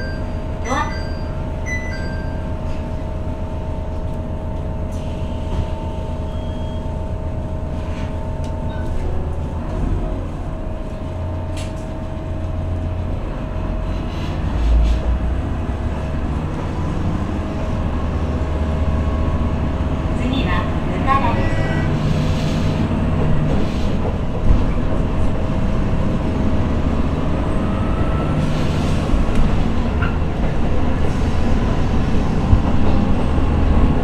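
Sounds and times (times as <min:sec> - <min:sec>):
train rumble: 0:00.0 - 0:34.0.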